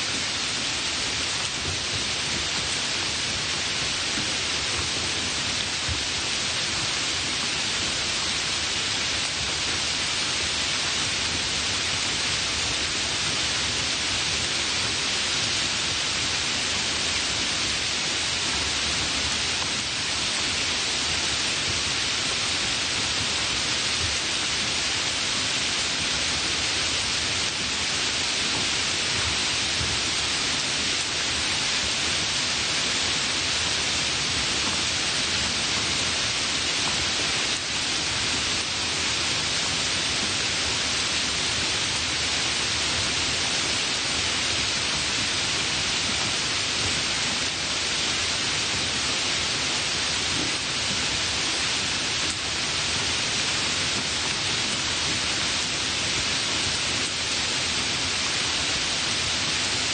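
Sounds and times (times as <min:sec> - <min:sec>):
light rain hissing: 0:00.0 - 0:59.9.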